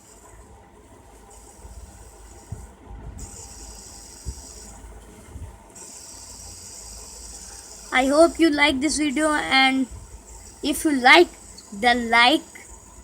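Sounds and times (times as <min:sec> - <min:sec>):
high hiss: 0:01.3 - 0:05.0, 0:05.8 - 0:13.0.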